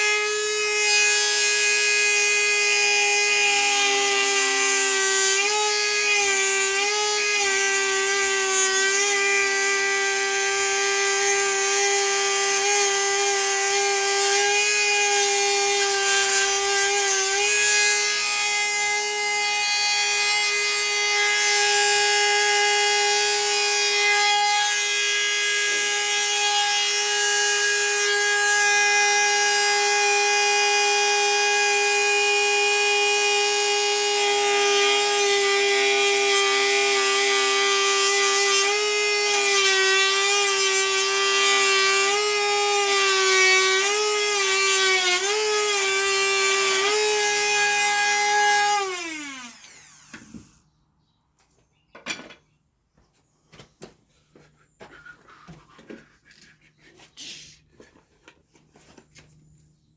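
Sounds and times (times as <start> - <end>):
power saw cutting wood: 0.0 - 50.6.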